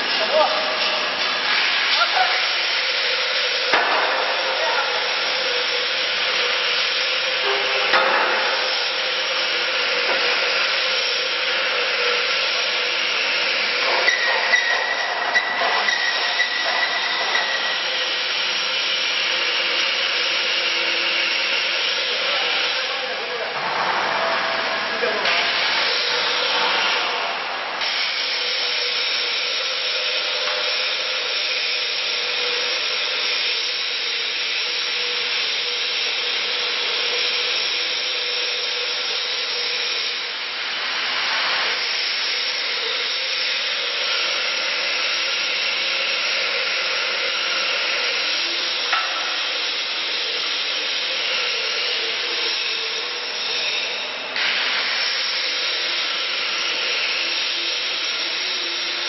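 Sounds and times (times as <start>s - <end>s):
machinery whirring hiss: 0.0s - 59.0s.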